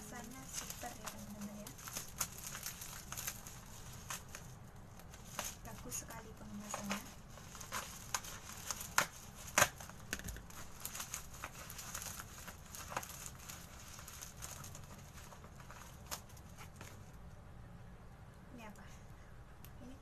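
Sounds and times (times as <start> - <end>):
plastic packaging crinkling and tearing: 0.0 - 17.2.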